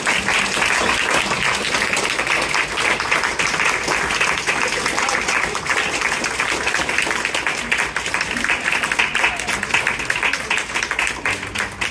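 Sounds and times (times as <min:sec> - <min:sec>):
audience clapping: 0:00.0 - 0:11.9.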